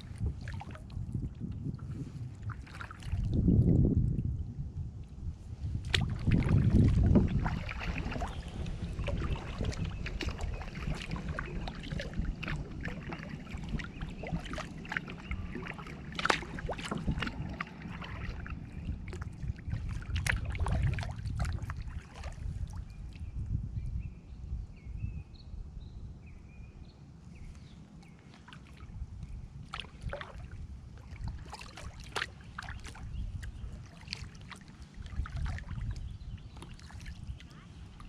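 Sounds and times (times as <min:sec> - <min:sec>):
paddle water splashing: 0:00.0 - 0:03.4, 0:05.5 - 0:23.2, 0:28.0 - 0:38.0
wind rumble on microphone: 0:00.0 - 0:38.0.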